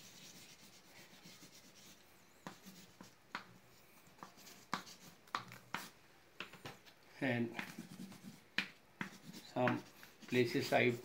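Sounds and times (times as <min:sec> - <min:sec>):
colouring strokes on paper: 0:00.0 - 0:06.0, 0:07.5 - 0:11.0.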